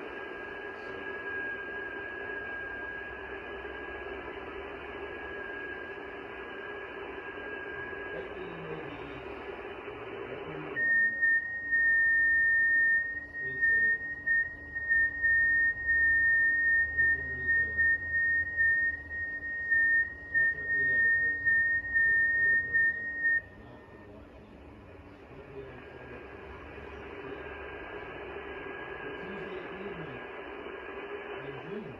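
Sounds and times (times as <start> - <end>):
warbling digital radio tone: 0.0 - 11.4, 15.2 - 31.9
receiver static hiss: 0.0 - 31.9.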